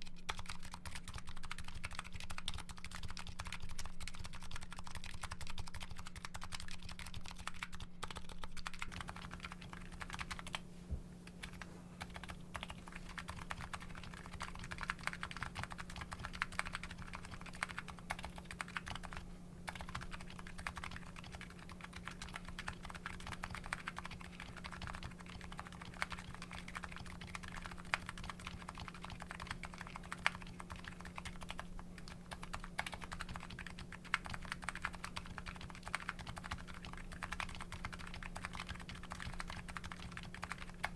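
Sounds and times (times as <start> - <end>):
typing on a keyboard: 0.0 - 10.6, 11.3 - 40.9
faint electrical hum: 0.0 - 40.9.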